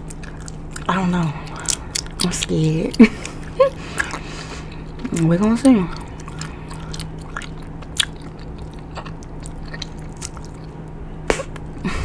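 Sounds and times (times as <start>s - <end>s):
person chewing bubble gum: 0.0s - 11.8s
low steady hum: 0.0s - 12.0s.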